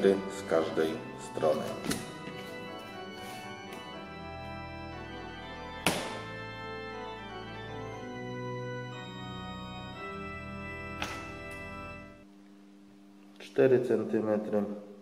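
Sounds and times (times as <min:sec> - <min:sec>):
slow organ chords: 0:00.0 - 0:13.3.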